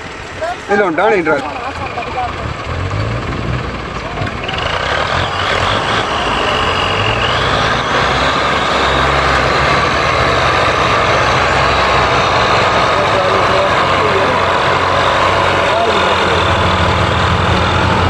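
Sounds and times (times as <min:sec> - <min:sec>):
tractor diesel engines straining: 0:00.0 - 0:18.0.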